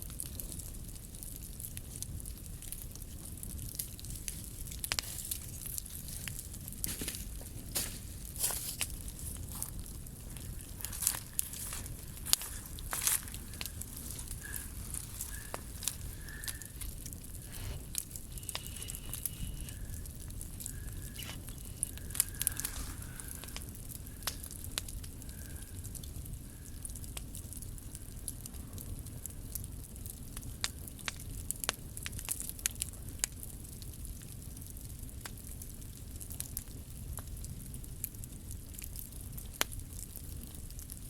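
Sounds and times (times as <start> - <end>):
bonfire crackling and popping: 0.0 - 41.0
low rush of flame: 0.0 - 41.0.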